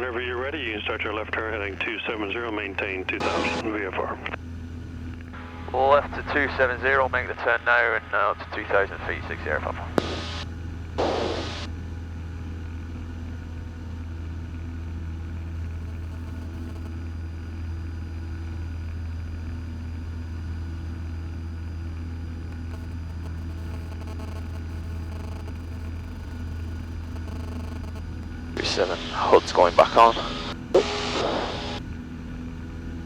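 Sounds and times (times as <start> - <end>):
airplane engine and propeller drone: 0.0 - 33.0.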